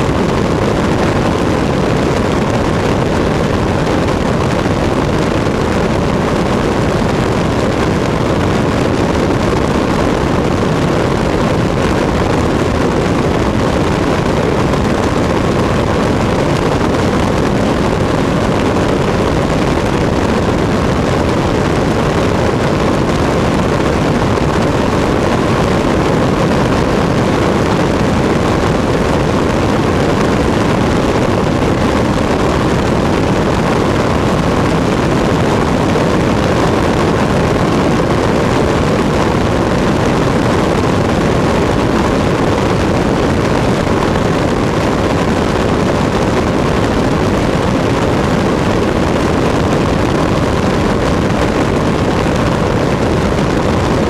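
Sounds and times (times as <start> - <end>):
airplane engine and propeller: 0.0 - 54.0
wind rushing over microphone: 0.0 - 54.0.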